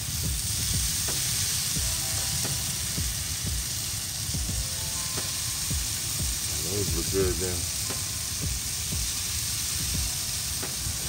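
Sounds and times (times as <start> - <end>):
shrimp sizzling on grill: 0.0 - 11.0.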